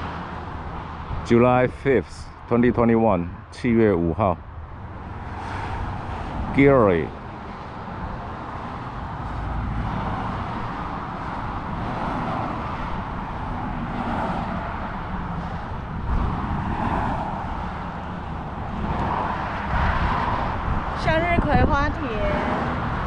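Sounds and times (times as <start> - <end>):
road traffic passing: 0.0 - 23.0
wind on microphone: 4.4 - 23.0.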